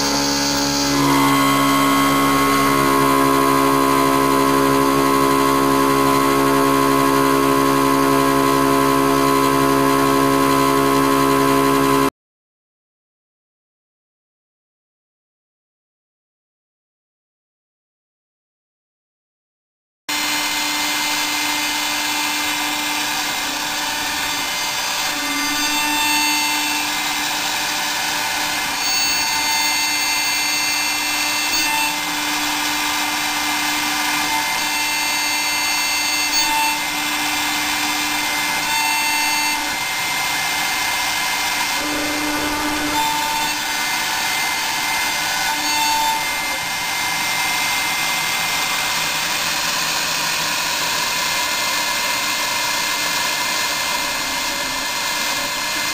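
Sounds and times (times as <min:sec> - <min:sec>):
milling spindle whine: 0:00.0 - 0:12.1, 0:20.1 - 0:55.9.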